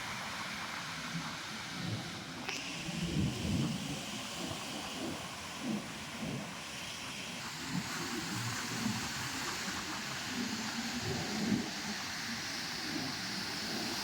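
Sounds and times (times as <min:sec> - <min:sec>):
wind and surf rushing: 0:00.0 - 0:14.0
wind buffeting the microphone: 0:00.0 - 0:14.0.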